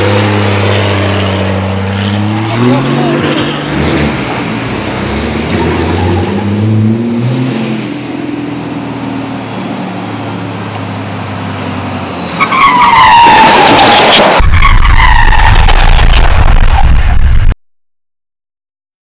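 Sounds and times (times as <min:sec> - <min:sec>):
truck engine changing gears: 0:00.0 - 0:17.3.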